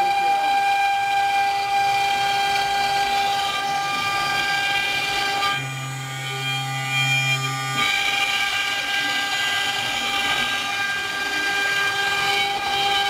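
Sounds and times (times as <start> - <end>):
cnc router whining: 0.0 - 13.0.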